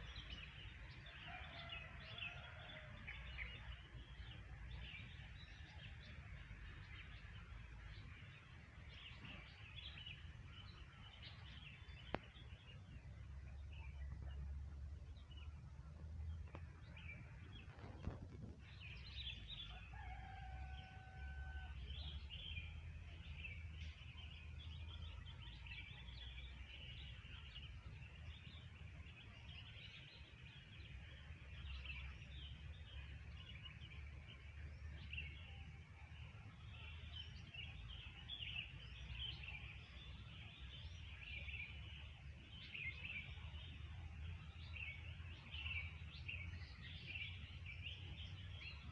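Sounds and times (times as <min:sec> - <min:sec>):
wild birds chirping: 0:00.0 - 0:48.9.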